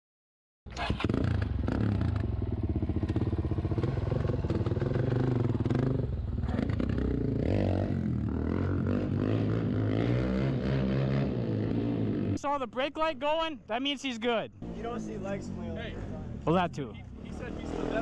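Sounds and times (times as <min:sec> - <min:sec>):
dirt bike engine idling and revving: 0:00.7 - 0:12.5, 0:14.5 - 0:18.0.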